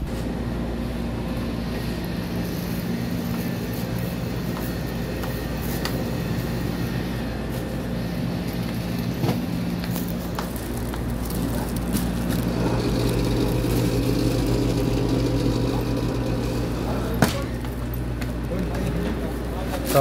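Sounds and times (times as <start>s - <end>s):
drink coolers humming: 0.0s - 20.0s.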